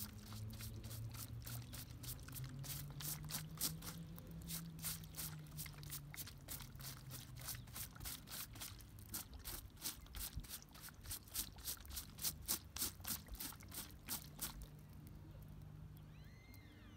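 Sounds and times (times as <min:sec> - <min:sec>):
stiff brush scrubbing boot sole: 0:00.0 - 0:14.7.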